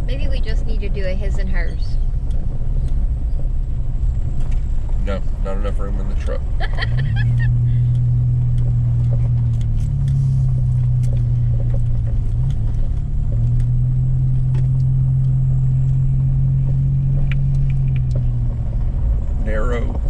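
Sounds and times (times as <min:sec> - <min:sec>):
engine and road noise drone: 0:00.0 - 0:20.0.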